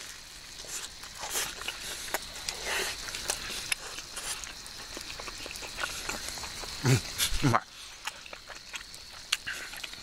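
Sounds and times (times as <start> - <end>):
person chewing food: 0.0 - 10.0
wood fire crackling: 0.0 - 10.0.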